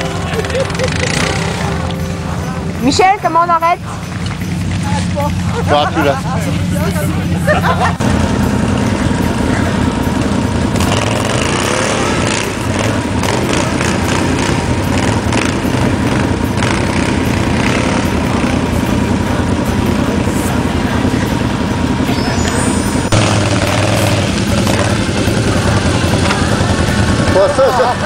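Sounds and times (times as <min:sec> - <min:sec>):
quad bike engine running: 0:00.0 - 0:28.0.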